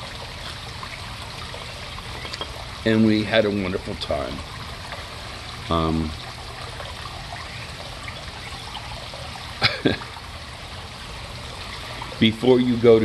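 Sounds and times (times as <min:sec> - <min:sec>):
running water trickling: 0:00.0 - 0:13.0.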